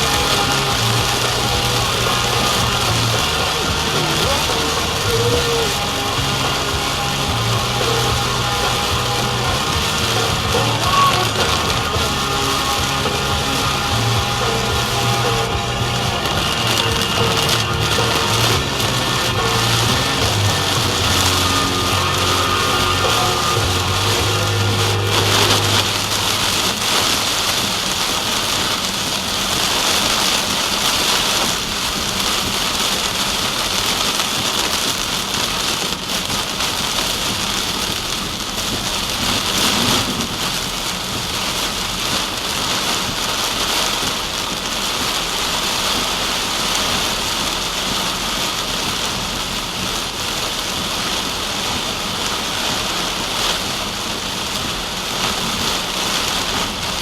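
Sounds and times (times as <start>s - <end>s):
rain hissing on a car: 0.0s - 57.0s.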